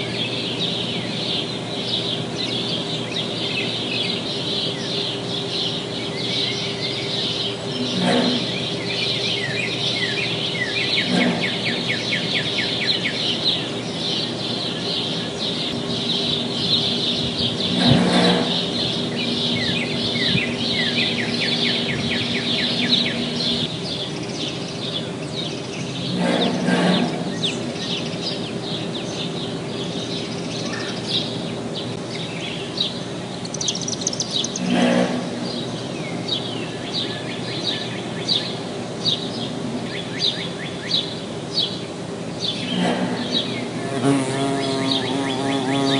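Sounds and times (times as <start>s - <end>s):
songbirds singing: 0.0s - 45.9s
steady hum: 0.0s - 45.9s.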